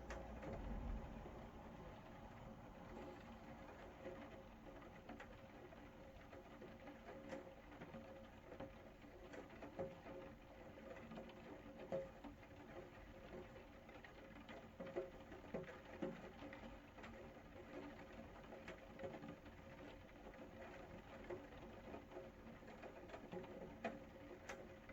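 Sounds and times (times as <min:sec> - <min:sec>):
rain pattering: 0:00.0 - 0:24.9.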